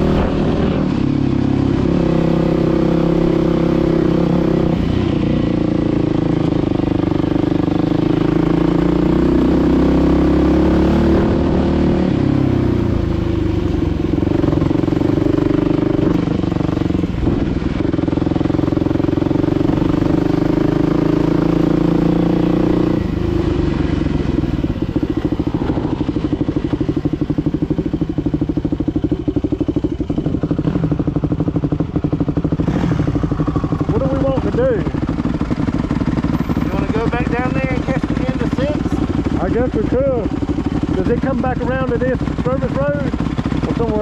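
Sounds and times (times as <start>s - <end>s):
dirt bike engine running: 0.0s - 44.0s.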